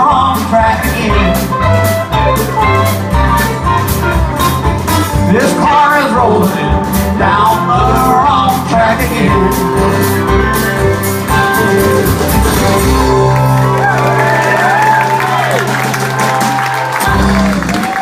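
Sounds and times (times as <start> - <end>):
country-rock band playing: 0.0 - 18.0
drums steady beat: 0.0 - 18.0
gliding lead guitar lines: 1.0 - 5.7, 6.5 - 18.0.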